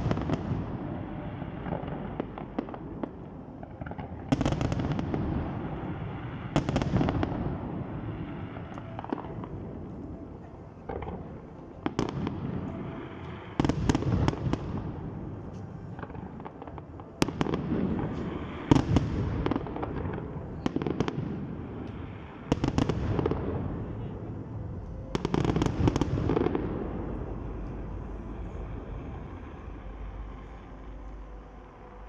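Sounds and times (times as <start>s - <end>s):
fireworks bursting with sharp bangs: 0.0s - 10.2s, 10.8s - 30.4s.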